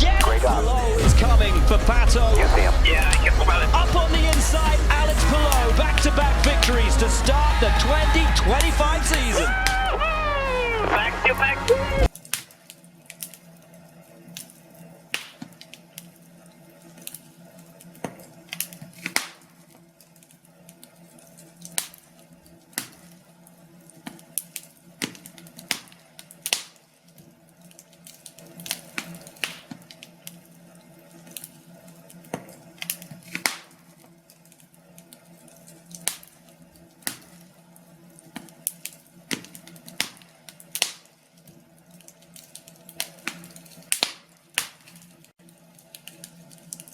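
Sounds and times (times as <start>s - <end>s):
faint steady hum: 0.0s - 46.9s
wood fire crackling: 0.0s - 46.9s.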